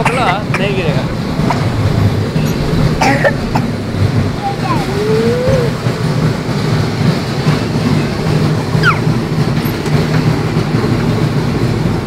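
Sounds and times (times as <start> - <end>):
bumper car rolling rumble: 0.0 - 12.0.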